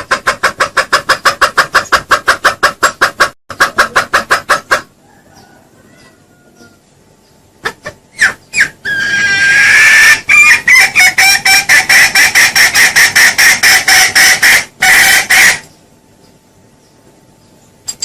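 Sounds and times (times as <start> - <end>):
junglefowl calling: 0.0 - 6.8, 7.6 - 15.8
junglefowl clucking: 0.0 - 6.8, 7.6 - 15.8.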